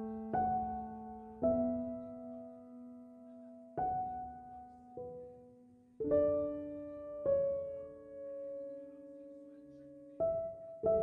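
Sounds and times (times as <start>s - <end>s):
slow gentle piano music: 0.0s - 11.0s.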